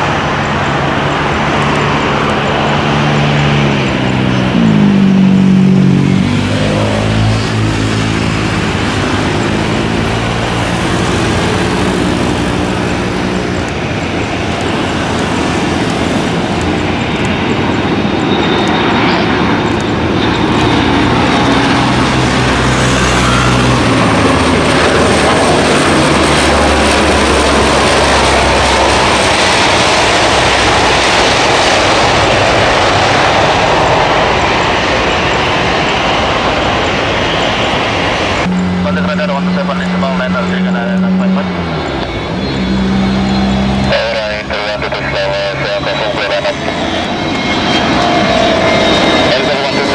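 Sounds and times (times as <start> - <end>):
propeller aircraft droning: 0.0 - 49.9.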